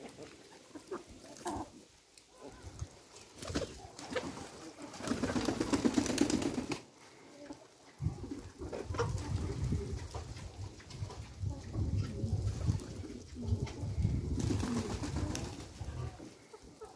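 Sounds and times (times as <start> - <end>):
birds pecking grain: 0.0 - 16.9.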